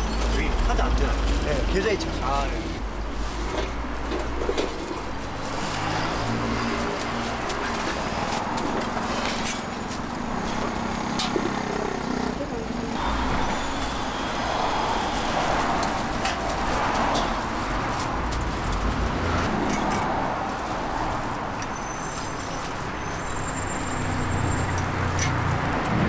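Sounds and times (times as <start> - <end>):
passing vehicles rumble: 0.0 - 26.0.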